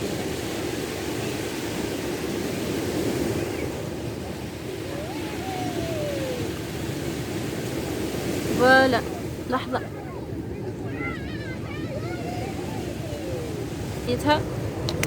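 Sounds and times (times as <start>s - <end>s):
surf: 0.0s - 15.0s
wind: 0.0s - 15.0s.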